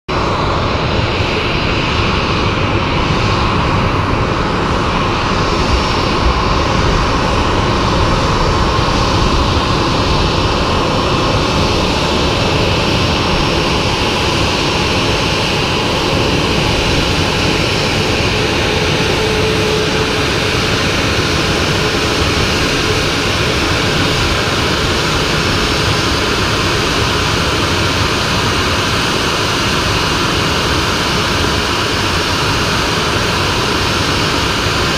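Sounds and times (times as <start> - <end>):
jet engines running: 0.1 - 34.9.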